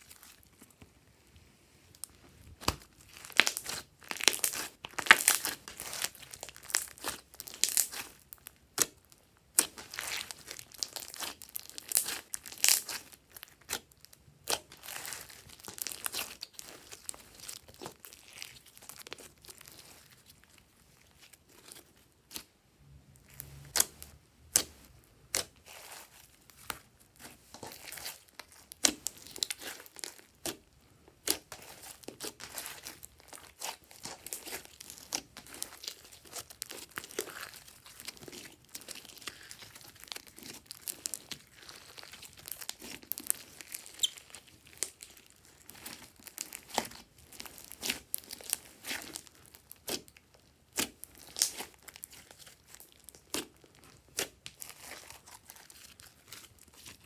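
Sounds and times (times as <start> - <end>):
hands squishing sticky slime: 0.0 - 0.9, 1.9 - 22.5, 23.2 - 57.0.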